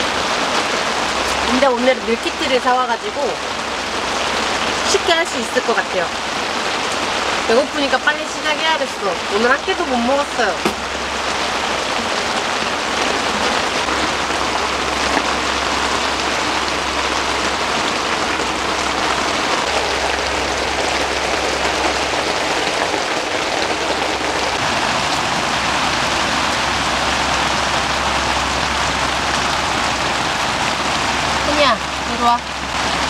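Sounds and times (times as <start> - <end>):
heavy rain on tent: 0.0 - 33.0.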